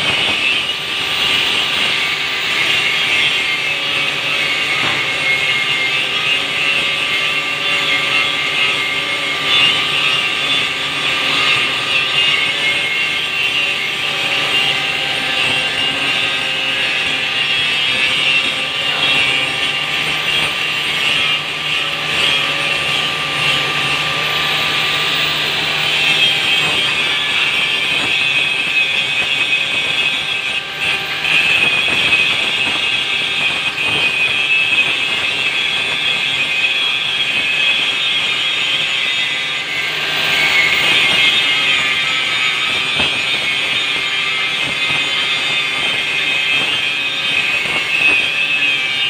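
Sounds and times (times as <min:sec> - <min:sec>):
angle grinder grinding metal: 0:00.0 - 0:49.0.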